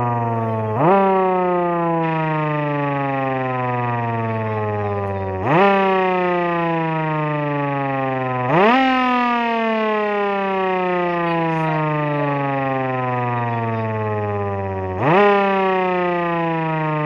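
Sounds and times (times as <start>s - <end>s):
electric siren winding up and down: 0.0s - 17.0s.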